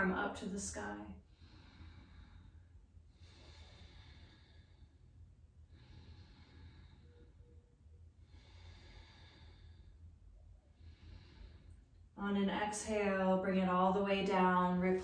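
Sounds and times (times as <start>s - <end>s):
low room hum: 0.0s - 15.0s
soft breathing: 1.1s - 14.0s.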